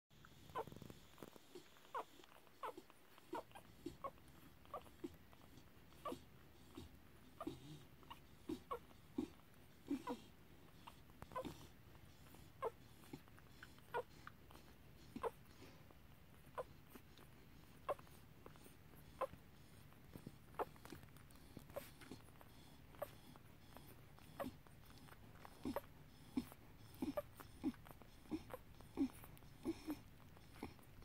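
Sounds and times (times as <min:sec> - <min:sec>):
puppies squeaking and whimpering: 0:00.4 - 0:31.0.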